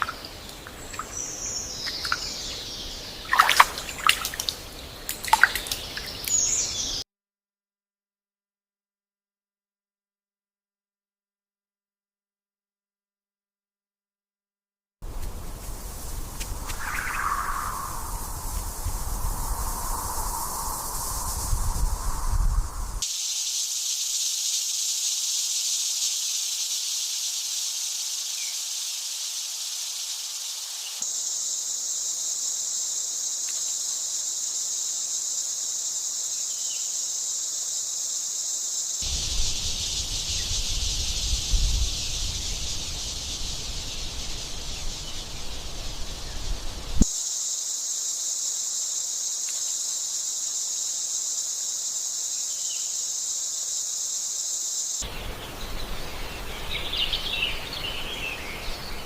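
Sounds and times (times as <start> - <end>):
insects chorus: 0.0 - 7.0, 15.0 - 59.0.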